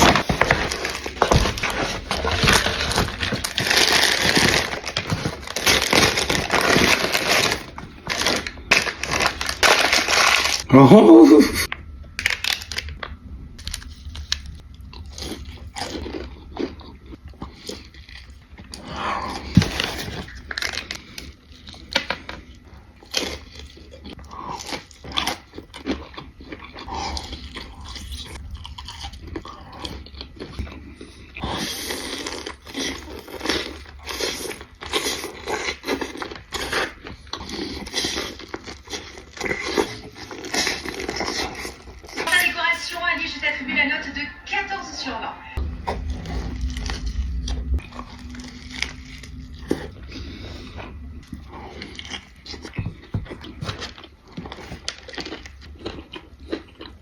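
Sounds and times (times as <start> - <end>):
food crunching while chewing: 0.0 - 10.8, 11.6 - 42.4, 45.6 - 57.0.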